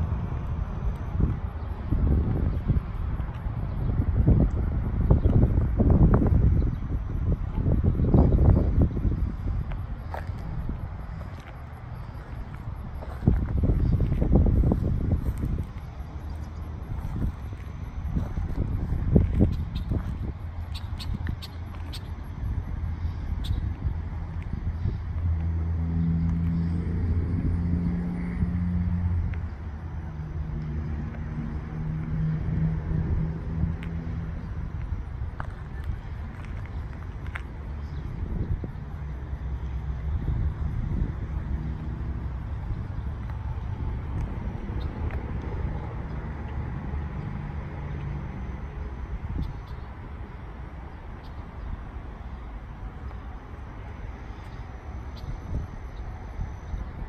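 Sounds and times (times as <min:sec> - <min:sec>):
outdoor background noise: 0:00.0 - 0:57.0
wind rumble on microphone: 0:00.0 - 0:57.0.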